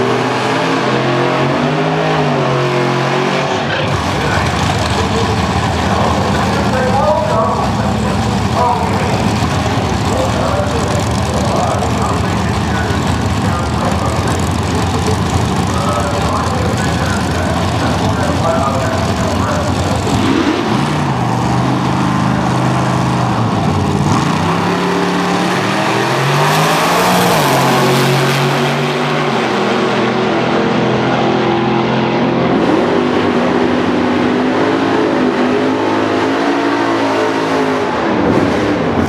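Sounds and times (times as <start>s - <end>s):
drag racing cars at full throttle: 0.0s - 39.0s.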